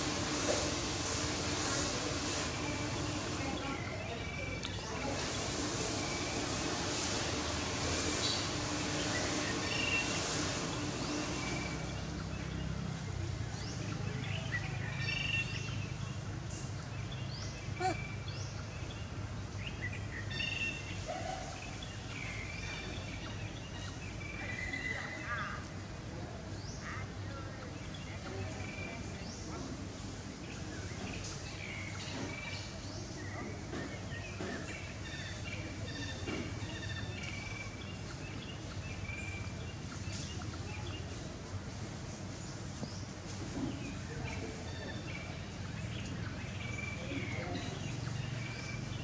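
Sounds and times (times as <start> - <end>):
small birds chirping: 2.3 - 6.6, 7.2 - 49.0.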